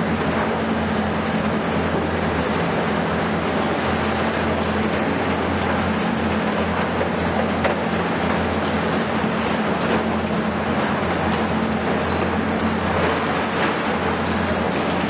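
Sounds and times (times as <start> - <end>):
excavator engines humming: 0.0 - 15.0.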